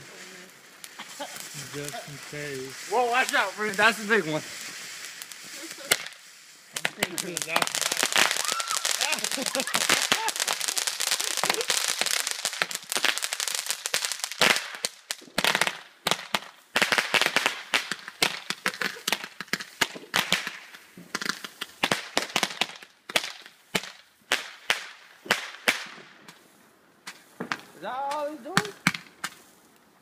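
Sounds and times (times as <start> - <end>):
fireworks popping and banging: 0.0 - 29.5
fireworks crackling: 0.0 - 30.0.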